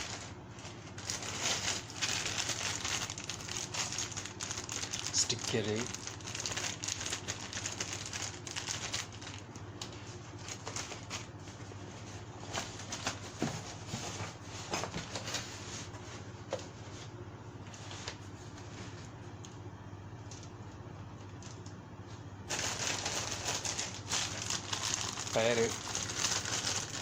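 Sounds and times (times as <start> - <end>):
plastic parts and bags crinkling: 0.0 - 15.8, 20.2 - 27.0
steady low hum: 0.0 - 27.0.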